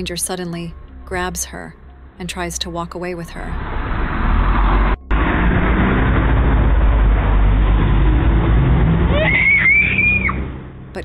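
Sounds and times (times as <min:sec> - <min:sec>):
steady low rumbling noise: 0:00.0 - 0:11.0.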